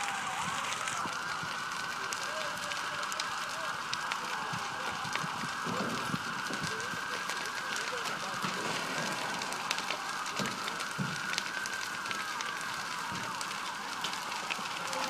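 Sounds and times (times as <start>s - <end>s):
fire crackling: 0.0s - 15.0s
siren wailing: 0.0s - 15.0s.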